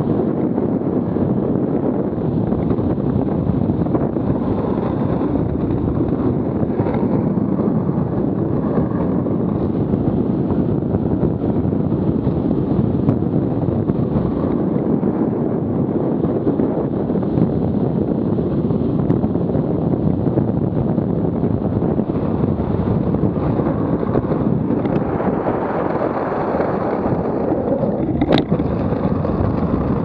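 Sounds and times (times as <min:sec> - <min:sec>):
hard wheels rolling on asphalt: 0:00.0 - 0:30.0
wind buffeting microphone: 0:00.0 - 0:30.0.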